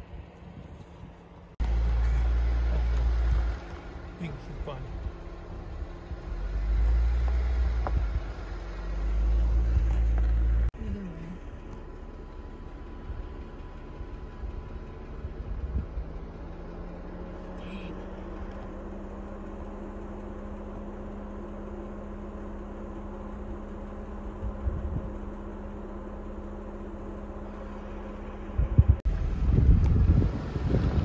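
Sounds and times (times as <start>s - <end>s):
low road rumble: 0.0s - 31.0s
vehicle engine hum: 0.0s - 31.0s.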